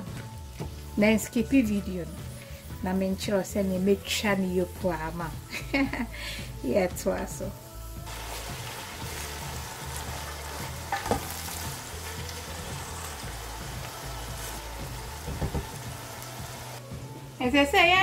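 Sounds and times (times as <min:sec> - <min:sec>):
onions sizzling in a pot: 0:00.0 - 0:18.0.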